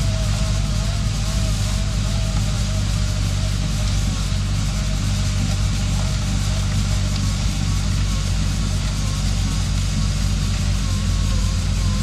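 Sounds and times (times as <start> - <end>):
engines droning: 0.0 - 12.0.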